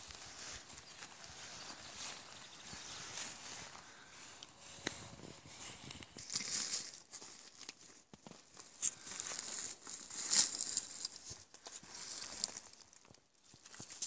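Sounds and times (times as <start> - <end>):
dry twigs crackling underfoot: 0.0 - 14.0.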